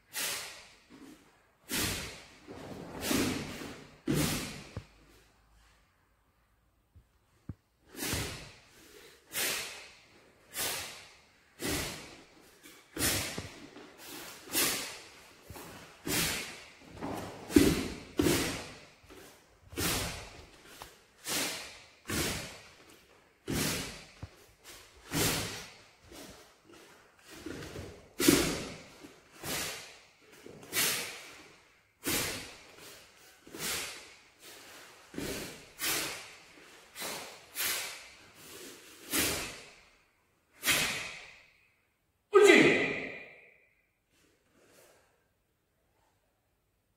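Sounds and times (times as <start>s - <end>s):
sharp exhaled breaths: 0.0s - 5.8s, 7.8s - 41.7s.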